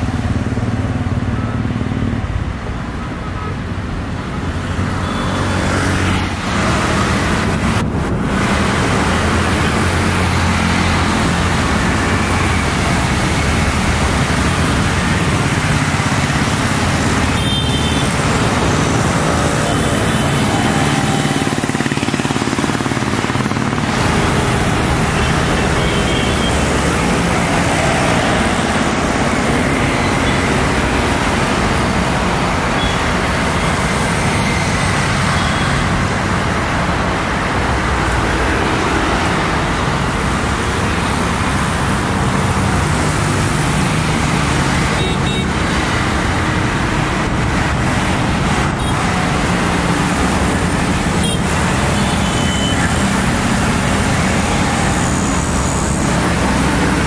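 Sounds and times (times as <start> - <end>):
engine roaring: 3.8 - 57.0.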